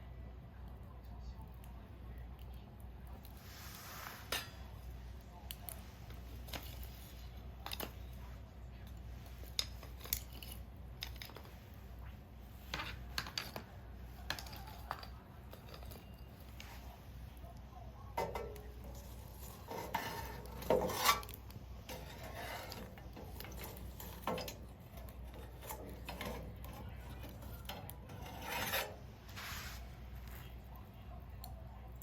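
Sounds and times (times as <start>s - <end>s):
low fire rumble: 0.0s - 32.0s
wood fire crackling and popping: 0.6s - 32.0s.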